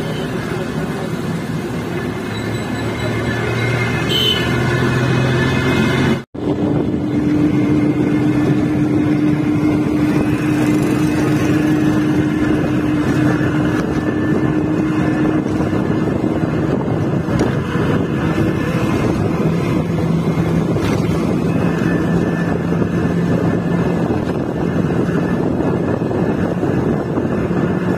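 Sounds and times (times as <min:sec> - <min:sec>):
bus engine humming: 0:00.0 - 0:27.9
road and wind noise: 0:00.0 - 0:27.9.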